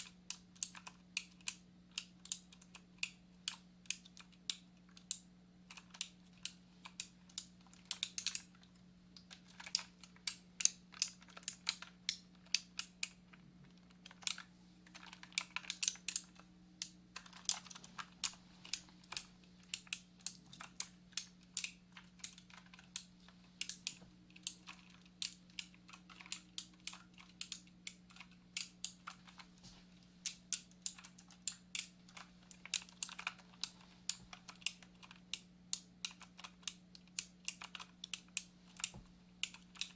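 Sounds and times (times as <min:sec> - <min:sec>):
computer keyboard typing: 0:00.0 - 0:08.6, 0:09.2 - 0:13.2, 0:13.9 - 0:29.6, 0:30.2 - 0:39.9
faint low hum: 0:00.0 - 0:39.9.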